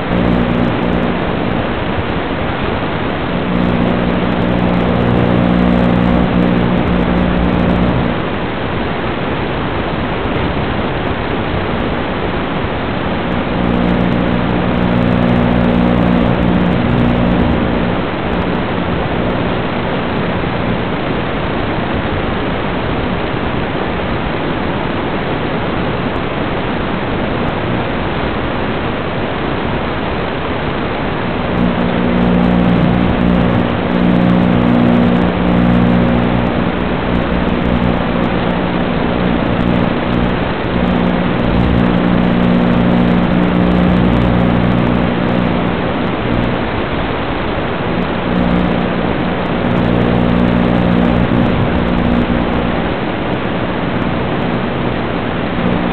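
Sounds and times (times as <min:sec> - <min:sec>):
low steady hum: 0:00.0 - 0:55.9
static hiss: 0:00.0 - 0:55.9.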